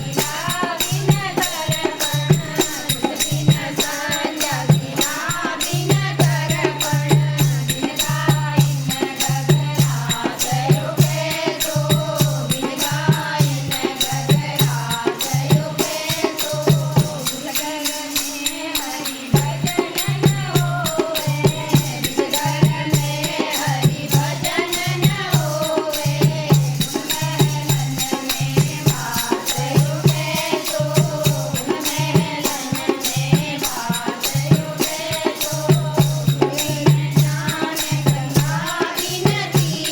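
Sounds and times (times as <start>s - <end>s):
rattling percussion: 0.0s - 39.9s
voices singing together: 0.0s - 39.9s.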